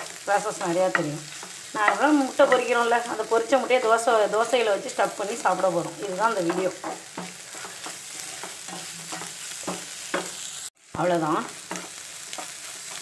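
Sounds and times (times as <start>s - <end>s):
spatula scraping pan: 0.0s - 10.6s, 11.6s - 13.0s
egg sizzling in oil: 0.0s - 13.0s.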